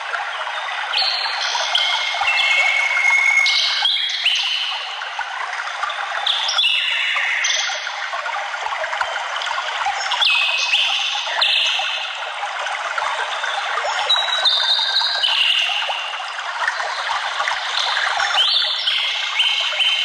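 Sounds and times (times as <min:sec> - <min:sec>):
stream trickling and splashing: 0:00.0 - 0:20.0.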